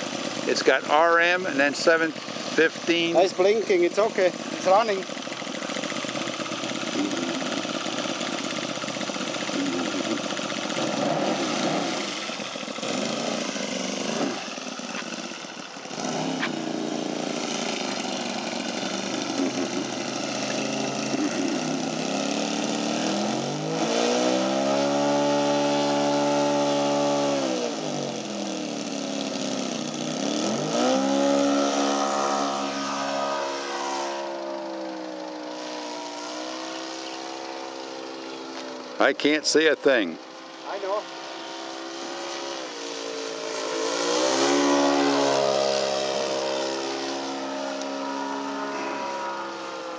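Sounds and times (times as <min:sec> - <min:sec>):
model plane engine revving: 0:00.0 - 0:49.9.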